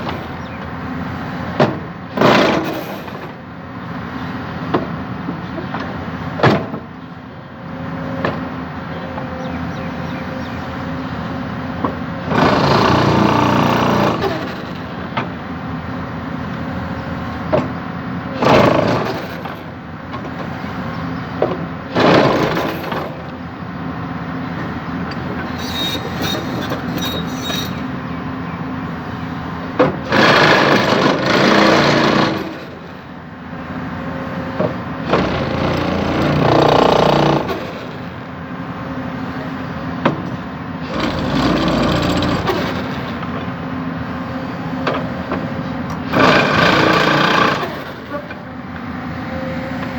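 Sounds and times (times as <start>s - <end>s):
excavator engine running: 0.0s - 49.9s.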